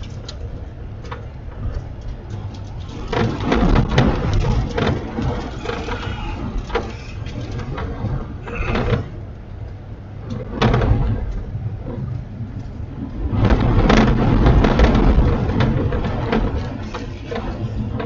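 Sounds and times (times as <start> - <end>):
tyres rumbling on gravel: 0.0 - 18.0
wind noise: 0.0 - 18.0.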